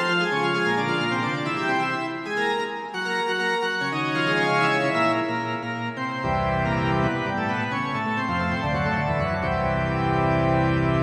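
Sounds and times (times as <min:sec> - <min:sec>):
organ music: 0:00.0 - 0:11.0.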